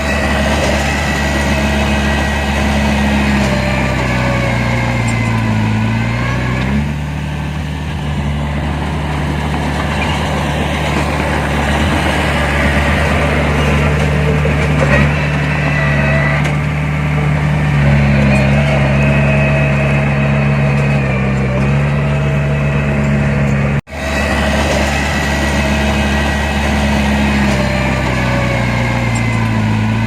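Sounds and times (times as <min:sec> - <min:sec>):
heavy machine diesel engine running: 0:00.0 - 0:30.0.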